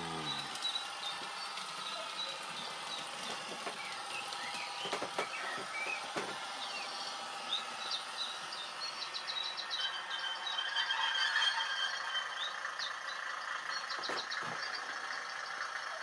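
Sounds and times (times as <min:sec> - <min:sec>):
steady hum: 0:00.0 - 0:15.7
recorded birdsong chirps: 0:00.0 - 0:16.0.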